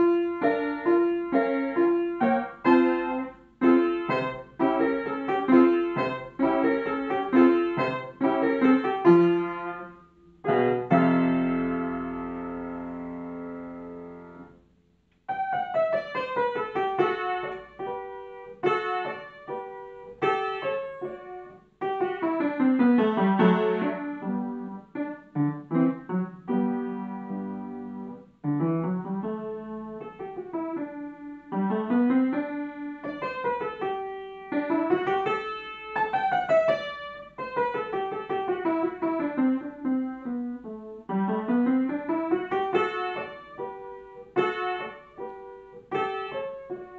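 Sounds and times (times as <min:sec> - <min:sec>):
upright piano playing: 0:00.0 - 0:46.9.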